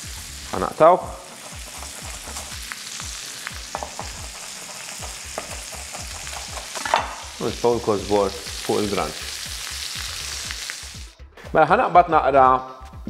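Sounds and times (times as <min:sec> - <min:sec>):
crab sizzling in a pan: 0:00.0 - 0:11.2.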